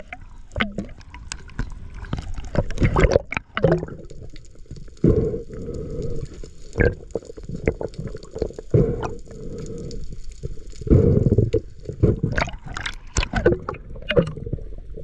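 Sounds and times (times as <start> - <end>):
muffled underwater water rushing: 0.0 - 15.0.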